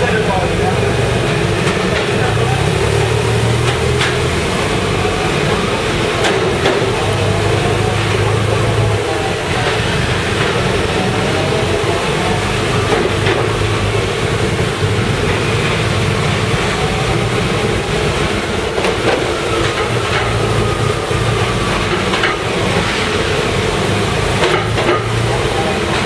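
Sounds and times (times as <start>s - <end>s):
motorcycle engines rumbling: 0.0s - 26.0s.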